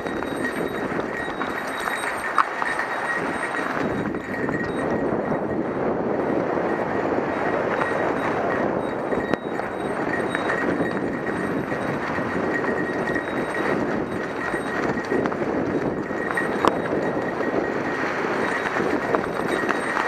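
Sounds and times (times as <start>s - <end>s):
bike rattling: 0.0s - 20.0s
bike tyre noise on trail: 0.0s - 20.0s.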